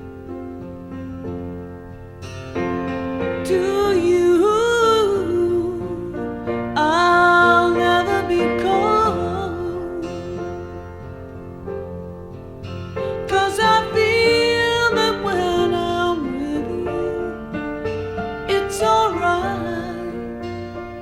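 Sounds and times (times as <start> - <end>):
slow song with keyboard and guitar: 0.0 - 21.0.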